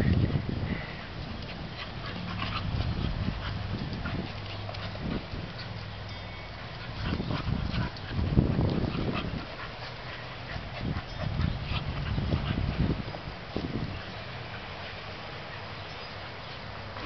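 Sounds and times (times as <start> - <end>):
dogs making low sounds: 0.9 - 17.0.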